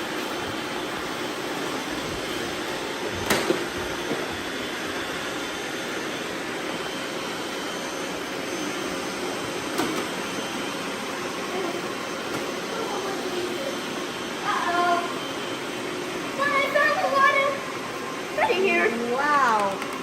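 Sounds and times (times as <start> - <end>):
robot vacuums whirring: 0.0 - 20.0.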